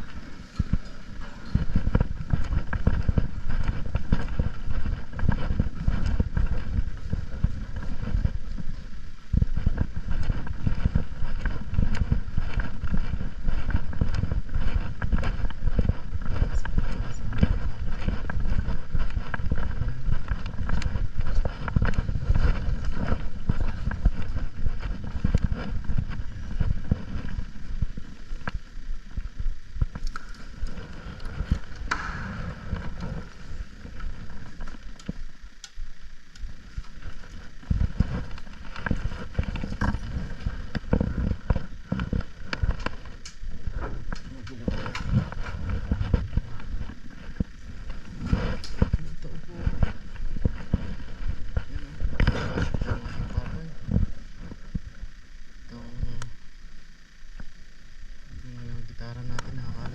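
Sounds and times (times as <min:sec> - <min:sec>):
motorcycle engine: 0:00.0 - 0:54.7
wind rumble on microphone: 0:00.0 - 0:56.3.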